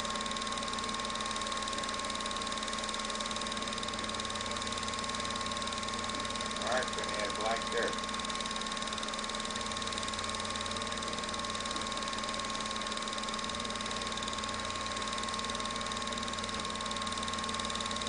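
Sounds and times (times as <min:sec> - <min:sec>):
film projector whirring: 0:00.0 - 0:18.0.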